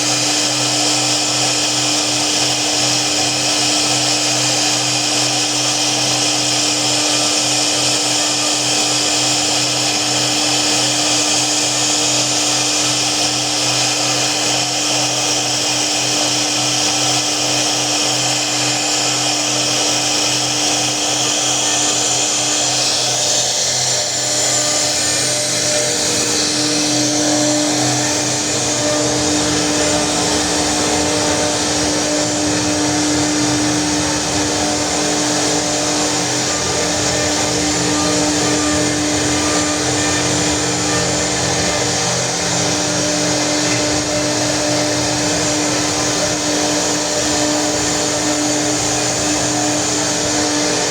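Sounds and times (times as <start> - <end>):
hiss of cutting: 0.0 - 50.9
router spindle whine: 0.0 - 50.9.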